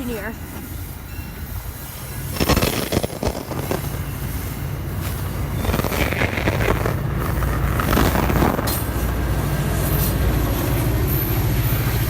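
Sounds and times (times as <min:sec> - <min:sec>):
diesel locomotive engine drone: 0:00.0 - 0:12.0
rail and wheel clatter: 0:00.0 - 0:12.0.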